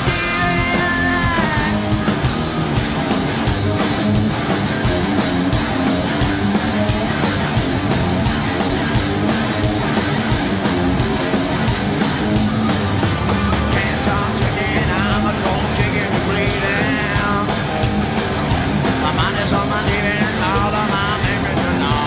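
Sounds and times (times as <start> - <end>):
distorted electric guitar: 0.0 - 22.0
hard rock band playing: 0.0 - 22.0.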